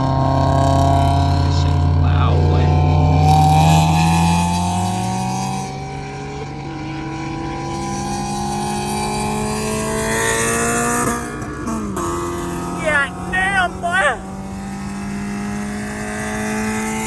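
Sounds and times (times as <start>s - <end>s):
car engine accelerating: 0.0s - 13.3s, 14.2s - 17.0s.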